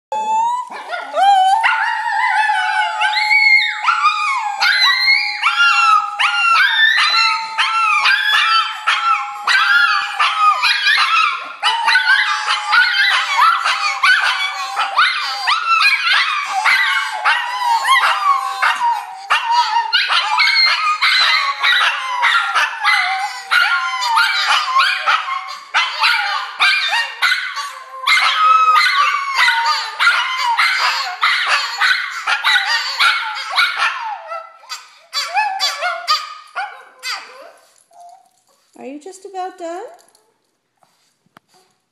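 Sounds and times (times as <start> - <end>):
dogs howling: 0.1 - 38.2.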